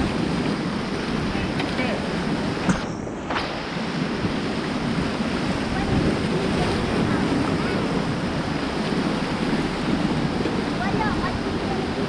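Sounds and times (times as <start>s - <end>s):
river water rushing through rapids: 0.0s - 12.0s
wind buffeting microphone: 0.0s - 12.0s.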